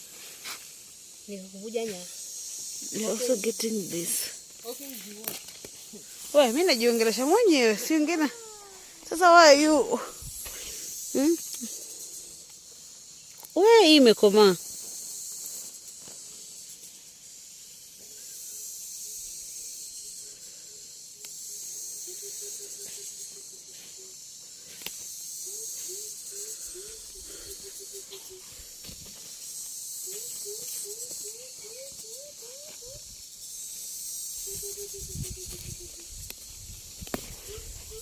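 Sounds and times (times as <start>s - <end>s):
insect chorus hissing: 0.0s - 38.0s.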